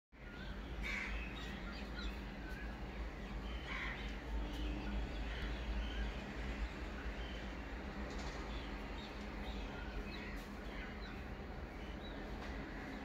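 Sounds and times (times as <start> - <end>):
birds calling and chirping: 0.2 - 13.0.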